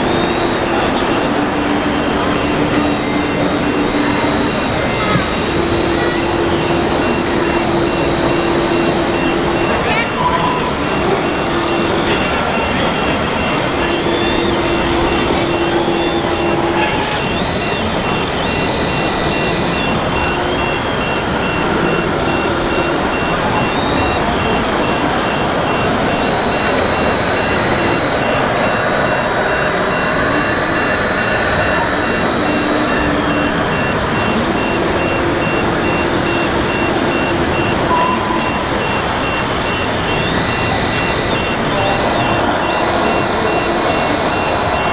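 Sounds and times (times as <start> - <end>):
motors and gears whining: 0.0 - 44.9
reversing beeper: 0.0 - 44.9.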